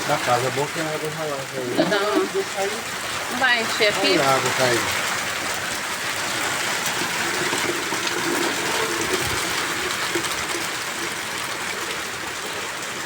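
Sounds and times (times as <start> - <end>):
steady rain: 0.0 - 13.0
water pouring into bucket: 0.0 - 13.0.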